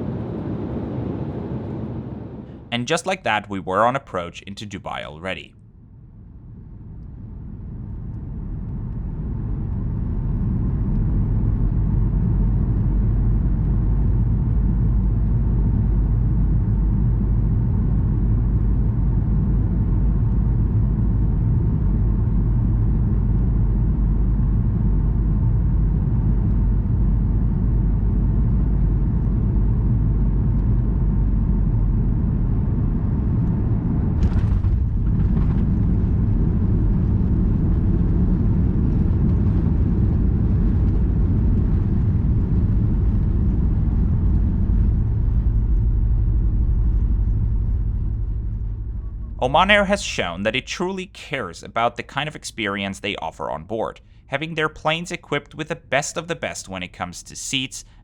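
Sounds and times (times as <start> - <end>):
airliner cabin low rumble: 0.0 - 58.0.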